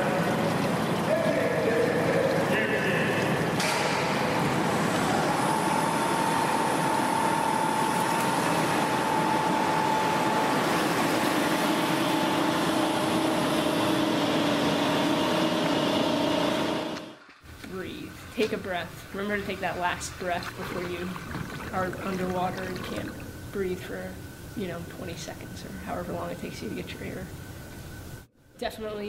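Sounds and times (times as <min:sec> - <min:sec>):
water churning: 0:00.0 - 0:14.7, 0:17.8 - 0:27.1
faint steady whine: 0:00.0 - 0:29.0.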